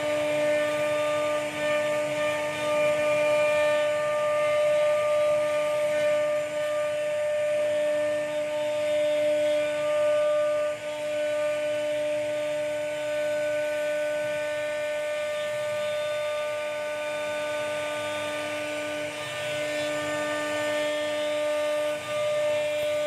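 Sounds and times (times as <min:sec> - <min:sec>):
cnc router spindle whining: 0:00.0 - 0:23.0
router bit cutting wood hiss: 0:00.0 - 0:23.0.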